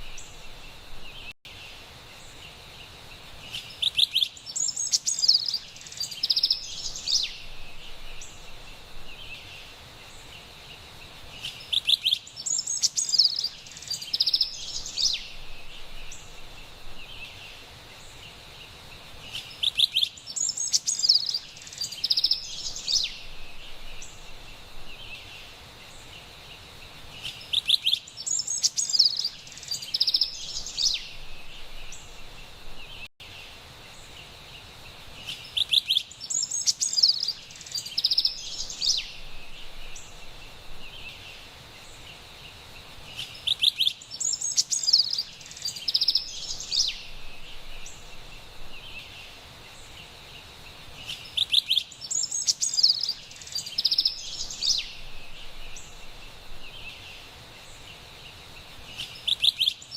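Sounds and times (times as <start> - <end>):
faint steady hiss: 0.0 - 59.9
wren singing: 3.4 - 10.5, 11.2 - 18.3, 19.2 - 33.1, 35.2 - 59.9.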